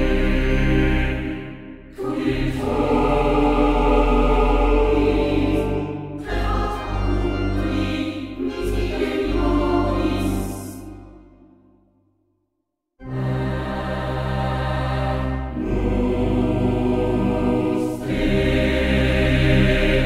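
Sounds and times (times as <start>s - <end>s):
slow choral music: 0.0s - 12.0s, 13.0s - 20.0s.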